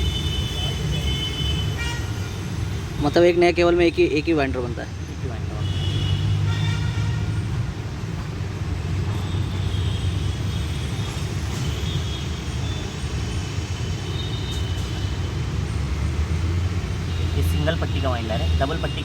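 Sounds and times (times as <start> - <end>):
low rumble of vehicle traffic: 0.0 - 19.0.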